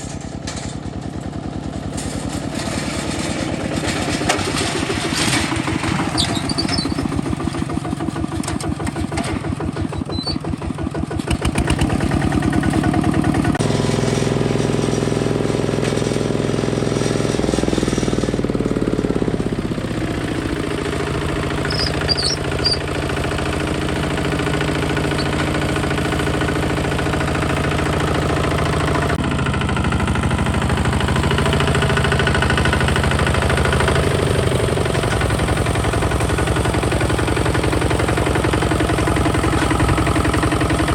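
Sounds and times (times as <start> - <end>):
single-cylinder diesel engine running: 0.0 - 40.9.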